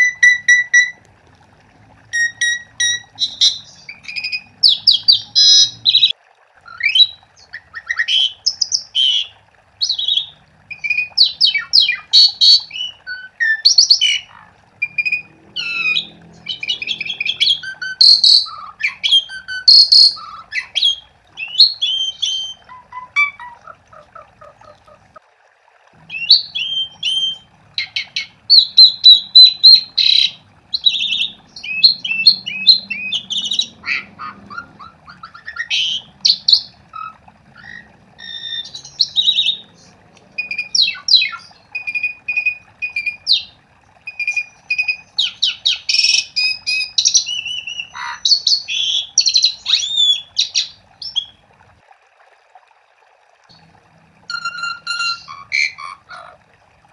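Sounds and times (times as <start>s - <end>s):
starling singing whistles and chatter: 2.1s - 6.1s, 6.7s - 23.7s, 26.1s - 51.4s, 54.3s - 56.2s.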